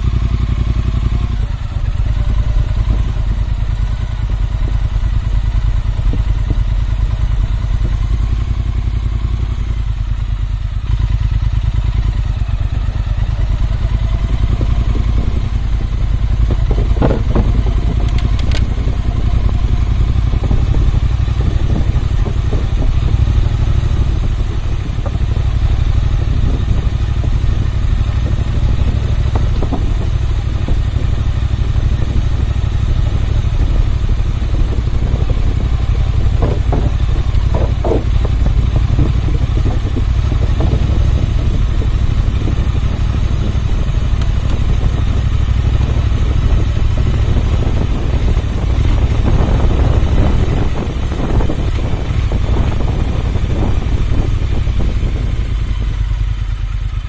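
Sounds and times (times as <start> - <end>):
motorcycle engine low rumble: 0.0 - 57.0.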